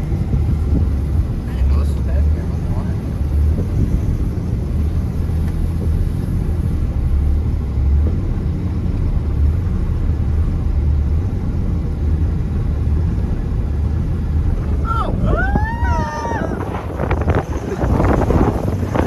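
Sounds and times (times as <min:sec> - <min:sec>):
truck engine and tyres rumbling: 0:00.0 - 0:19.0.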